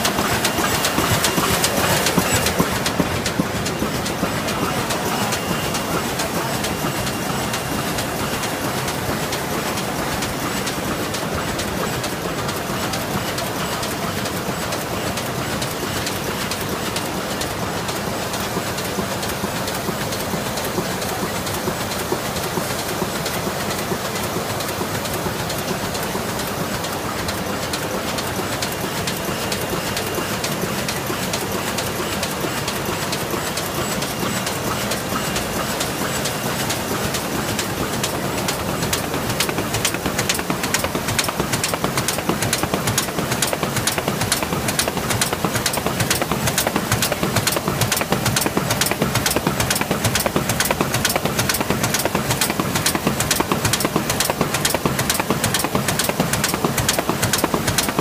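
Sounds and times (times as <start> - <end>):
laminator machine clattering: 0.0 - 58.0.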